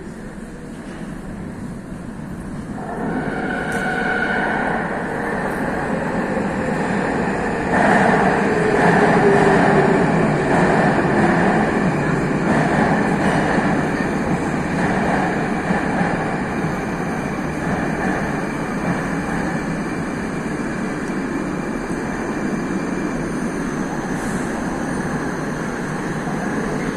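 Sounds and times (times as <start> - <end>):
metro train rumble: 0.0 - 26.9
rail noise: 0.0 - 26.9.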